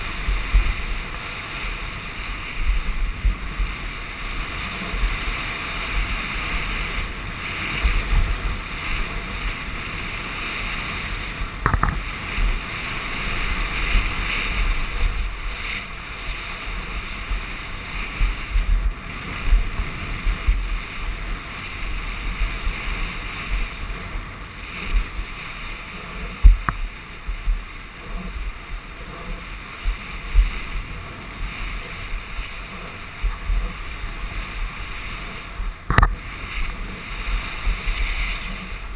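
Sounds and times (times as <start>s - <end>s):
bike tyres on dirt trail: 0.0s - 38.9s
wind buffeting camera: 0.0s - 38.9s.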